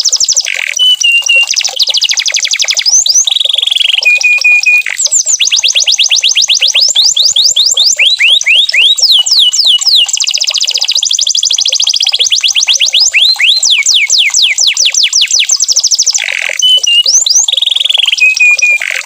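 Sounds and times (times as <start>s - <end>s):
canary singing: 0.0s - 19.0s
fast bird trill: 0.0s - 19.0s.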